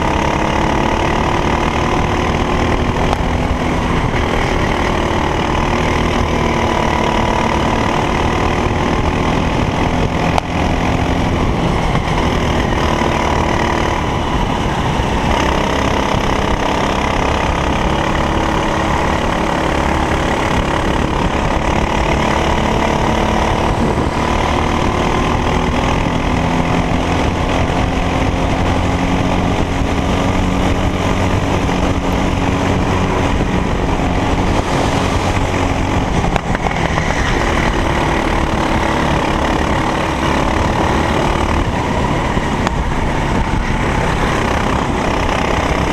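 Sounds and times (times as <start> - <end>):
racing kart engine: 0.0 - 45.9.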